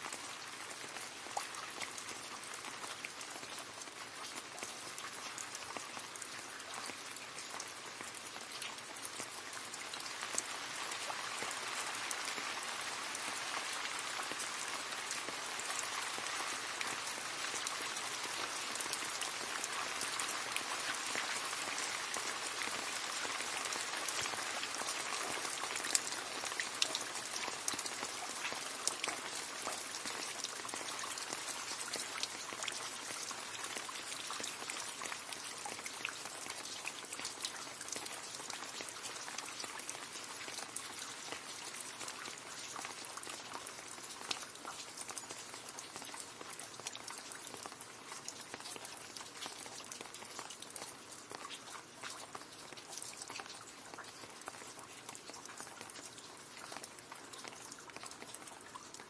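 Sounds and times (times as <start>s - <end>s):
rain splashing into puddle: 0.0s - 59.0s.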